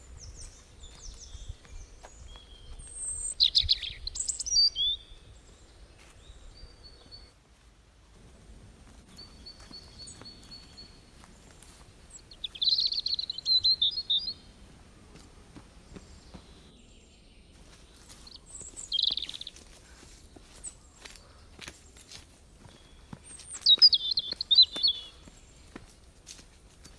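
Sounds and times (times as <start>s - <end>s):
faint footsteps on dirt: 0.0s - 16.9s, 17.5s - 26.9s.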